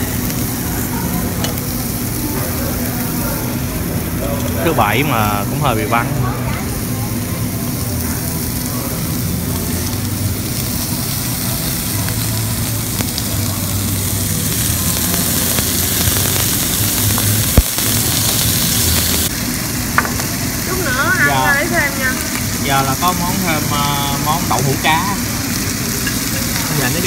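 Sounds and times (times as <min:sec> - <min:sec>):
beef sizzling on a grill: 0:00.0 - 0:27.0.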